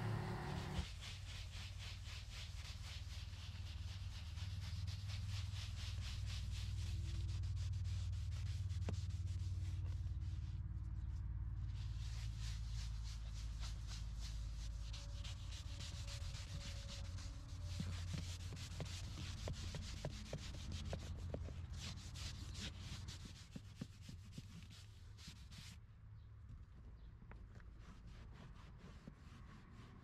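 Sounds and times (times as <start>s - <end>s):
foam pad scrubbing leather: 0.0s - 10.0s, 11.9s - 25.8s, 27.6s - 30.0s.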